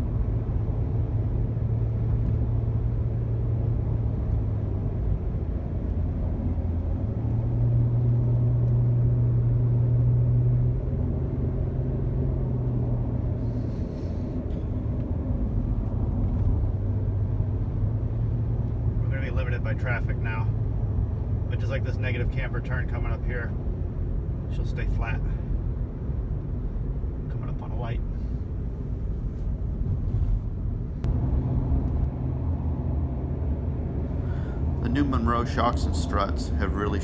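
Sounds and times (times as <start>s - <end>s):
minivan engine and road drone: 0.0s - 37.0s.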